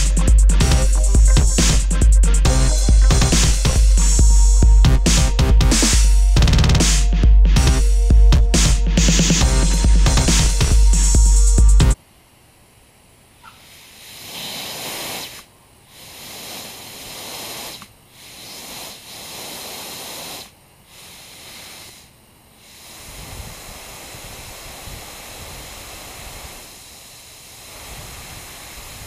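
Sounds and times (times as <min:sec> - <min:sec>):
compressed air hissing: 0:00.0 - 0:12.0, 0:13.4 - 0:29.0.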